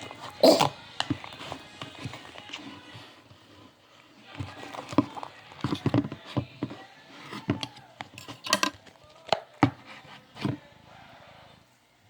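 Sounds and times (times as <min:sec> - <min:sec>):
utensil clinking and scraping a bowl: 0:00.0 - 0:11.6.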